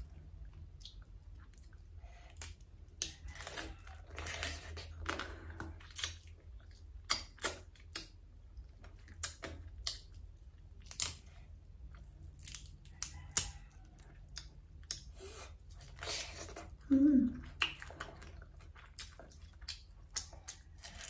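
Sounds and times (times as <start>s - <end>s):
chewing: 0.0s - 21.0s
low steady hum: 0.0s - 21.0s.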